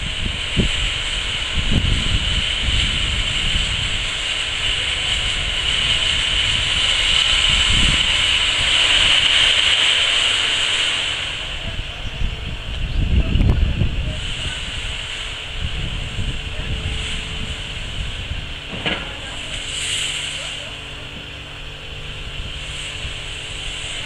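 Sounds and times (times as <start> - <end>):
locomotive steam hiss: 0.0 - 24.0
wind buffeting microphone: 0.0 - 24.0.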